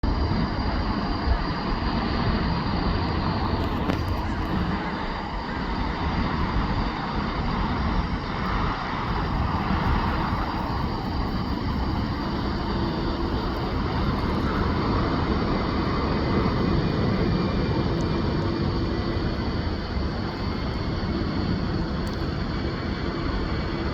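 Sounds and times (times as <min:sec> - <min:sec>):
jet airliner engines running: 0:00.0 - 0:23.9.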